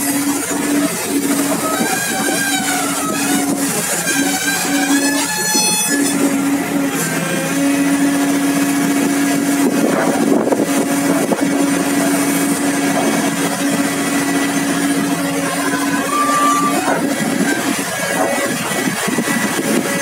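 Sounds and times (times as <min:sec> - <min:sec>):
excavator engine and hydraulics drone: 0:00.0 - 0:20.0.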